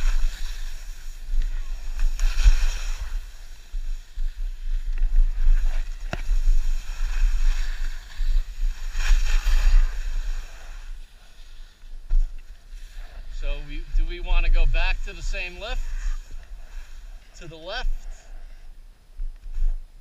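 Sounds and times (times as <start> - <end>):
skis carving over snow: 0.0 - 18.6.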